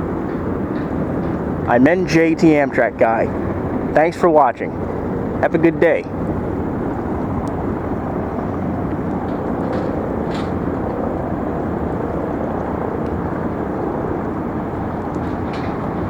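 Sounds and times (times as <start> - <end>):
distant traffic rumble: 0.0 - 16.0.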